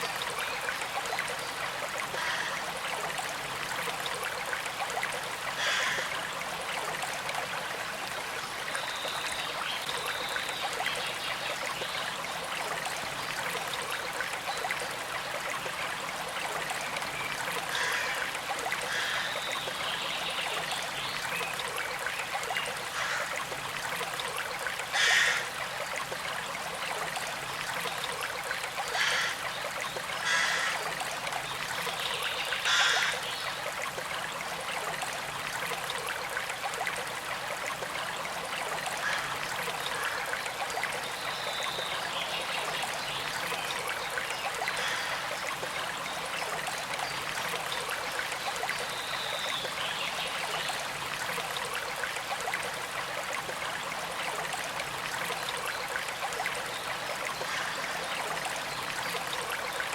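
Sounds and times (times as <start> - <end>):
creek flowing and trickling: 0.0 - 59.9.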